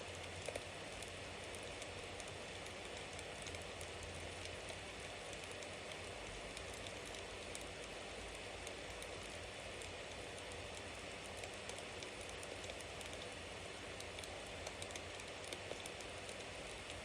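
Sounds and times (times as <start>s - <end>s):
burning wood crackling and popping: 0.1s - 17.0s.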